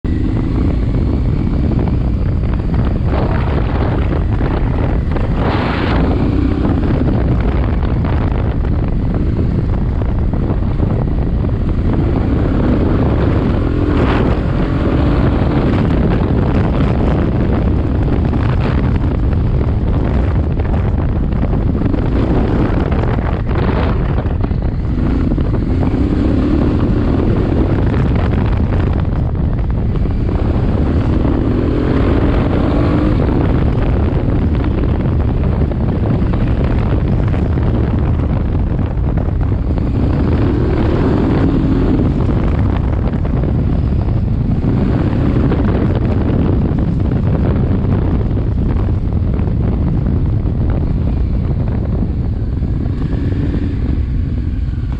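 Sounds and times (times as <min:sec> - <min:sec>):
motorcycle engine revving: 0:00.0 - 0:54.9
wind noise on microphone: 0:00.0 - 0:54.9.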